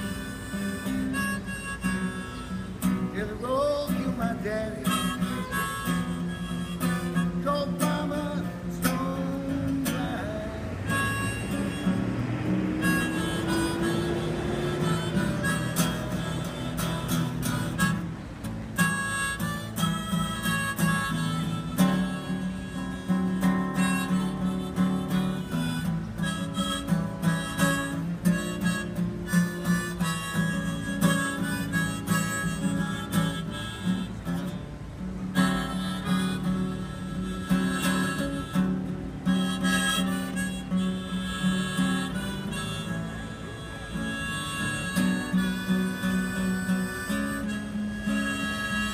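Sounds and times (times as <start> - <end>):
blues harmonica: 0.0 - 48.9
strummed acoustic guitar: 0.0 - 48.9.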